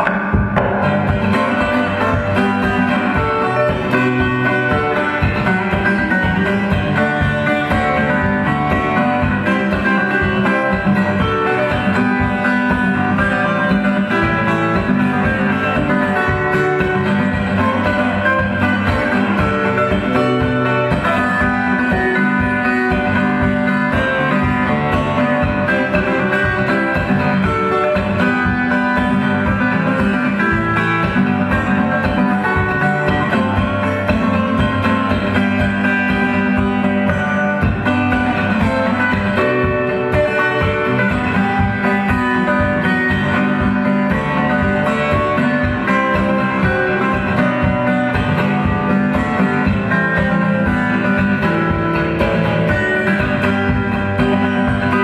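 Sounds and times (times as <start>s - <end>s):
fingerstyle acoustic guitar: 0.0s - 55.0s.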